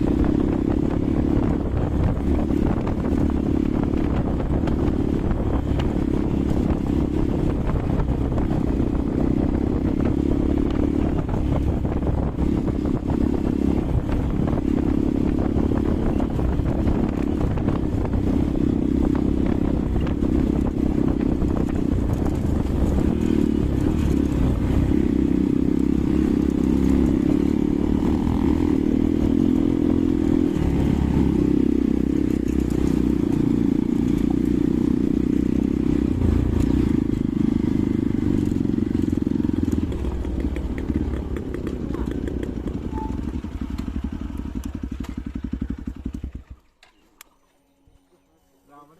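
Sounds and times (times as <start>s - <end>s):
motorcycle engine drone: 0.0s - 48.9s.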